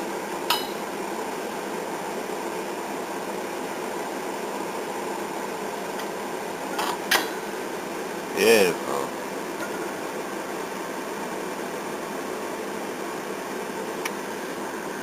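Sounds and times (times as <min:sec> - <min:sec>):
heater fan-like hiss and hum: 0:00.0 - 0:15.0.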